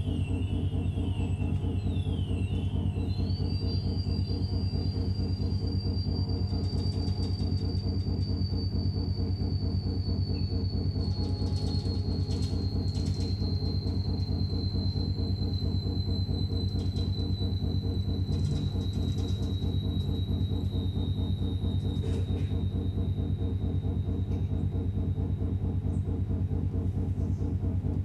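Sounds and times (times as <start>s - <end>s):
low rumble with fast pulsing: 0.0s - 28.0s
thin high tone sinking in pitch: 0.0s - 28.0s.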